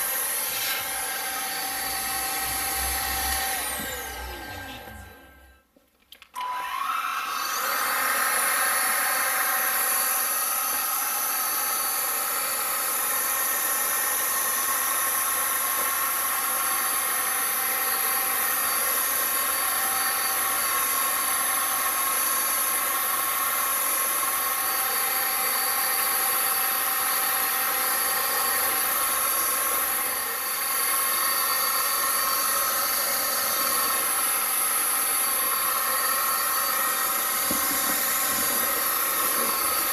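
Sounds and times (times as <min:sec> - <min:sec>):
vacuum cleaner motor whining: 0:00.0 - 0:05.7, 0:06.3 - 0:39.9.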